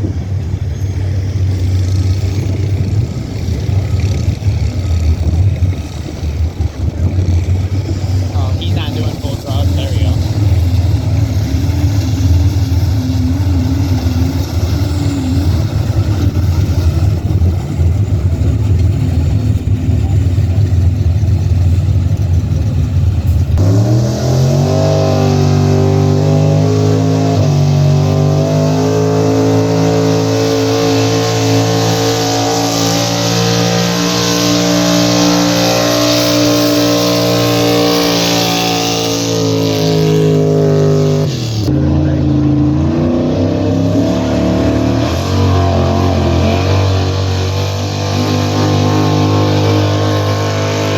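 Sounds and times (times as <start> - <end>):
pulling vehicle engine revving: 0.0 - 50.9.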